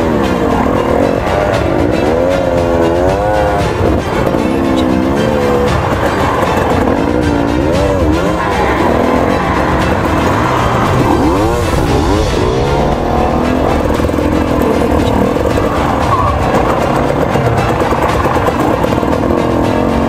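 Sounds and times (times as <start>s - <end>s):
background music: 0.0s - 20.0s
two-stroke engine revving: 0.0s - 20.0s.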